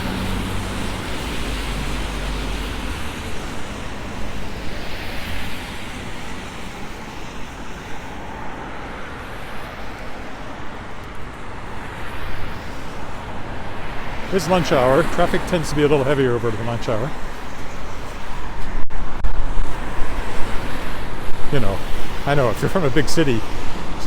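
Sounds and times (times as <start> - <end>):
tyre and traffic noise: 0.0 - 24.0
vehicle engine hum passing: 0.0 - 24.0
wind buffeting microphone: 0.0 - 24.0.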